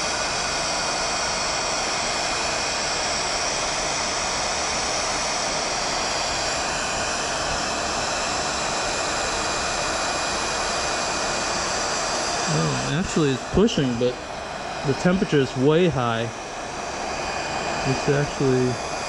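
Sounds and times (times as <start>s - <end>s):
heat gun running: 0.0s - 19.0s.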